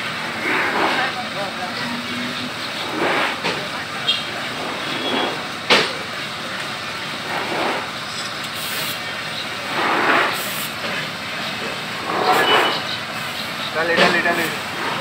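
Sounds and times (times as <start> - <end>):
street traffic: 0.0 - 15.0
vehicles passing: 0.0 - 15.0.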